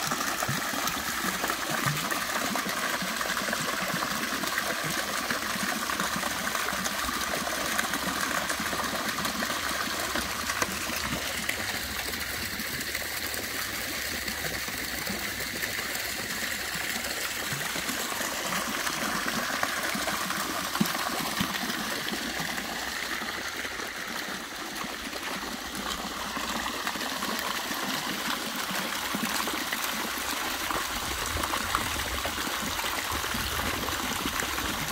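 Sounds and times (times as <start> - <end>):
fountain water splashing: 0.0 - 34.9.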